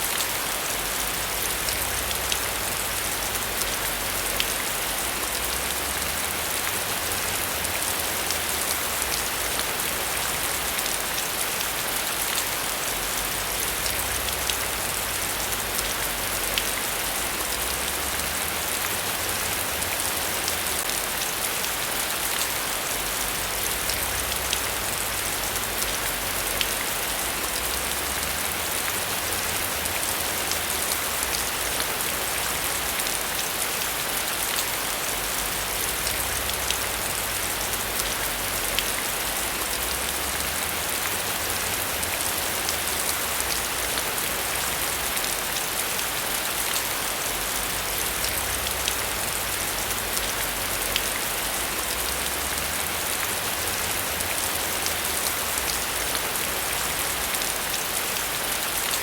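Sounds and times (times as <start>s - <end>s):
heavy rain on a surface: 0.0s - 59.0s.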